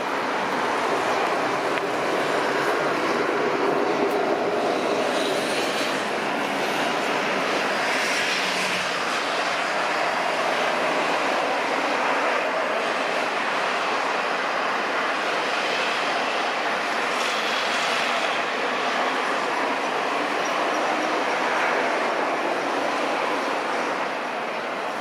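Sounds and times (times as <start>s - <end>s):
jet engine rushing: 0.0s - 25.0s.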